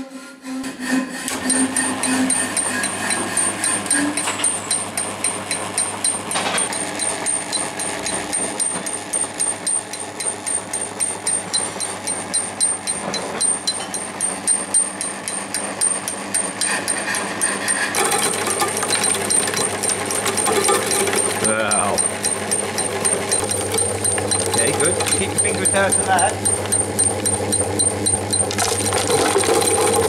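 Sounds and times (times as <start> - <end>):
grinder drum clattering: 1.1 - 30.0.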